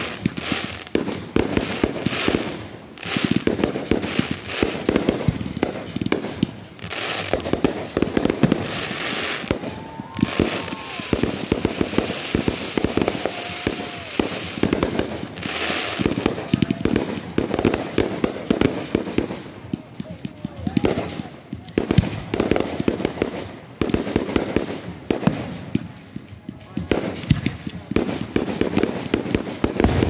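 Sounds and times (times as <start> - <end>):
fireworks bursting cracks: 0.0 - 30.0
fireworks crackle and hiss: 0.0 - 30.0.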